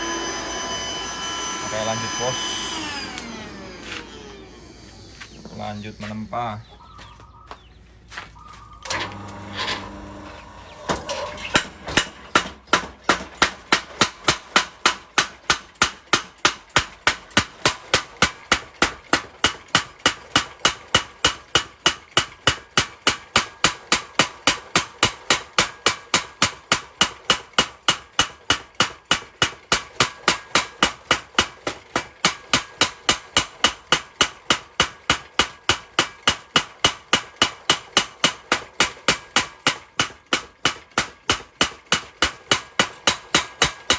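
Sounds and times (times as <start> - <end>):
power hammer striking metal: 0.0 - 4.0, 10.7 - 43.9.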